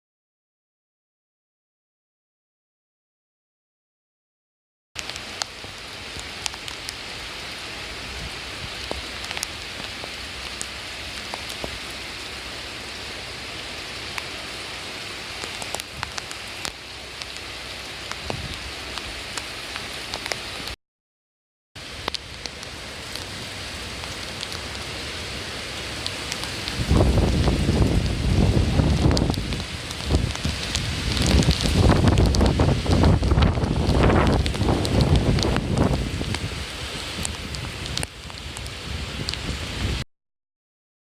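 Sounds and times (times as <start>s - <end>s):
heavy rain hissing: 5.0s - 20.8s, 21.8s - 40.0s.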